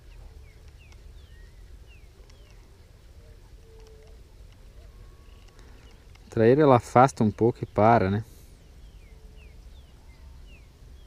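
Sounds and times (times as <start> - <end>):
faint bird calls: 0.0 - 6.3, 8.2 - 11.0.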